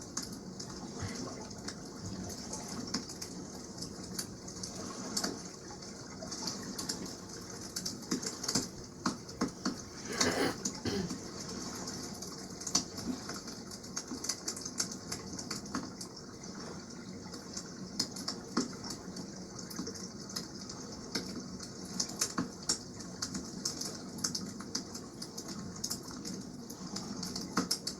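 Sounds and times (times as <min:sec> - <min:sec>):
water wash: 0:00.0 - 0:27.9.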